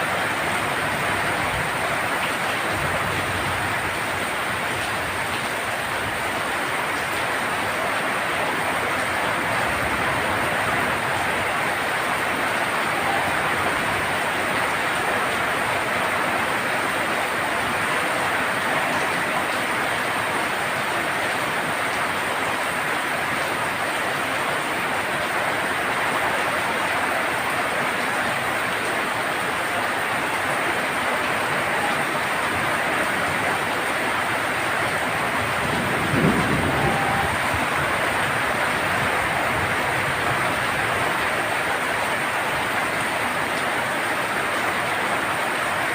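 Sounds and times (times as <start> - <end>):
rain drumming on a tin roof: 0.0 - 45.9.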